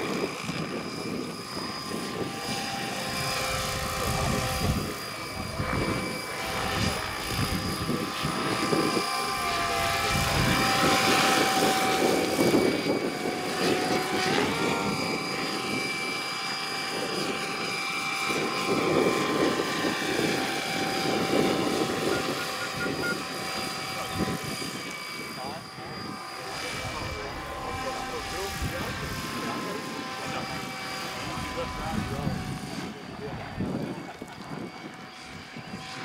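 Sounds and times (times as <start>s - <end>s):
rotor blades churning: 0.0s - 33.7s
model helicopter electric whine: 0.0s - 36.0s.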